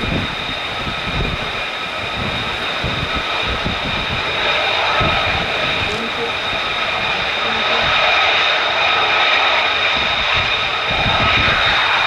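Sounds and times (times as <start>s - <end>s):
low engine rumble: 0.0s - 11.4s
jet engine whine: 0.0s - 12.0s.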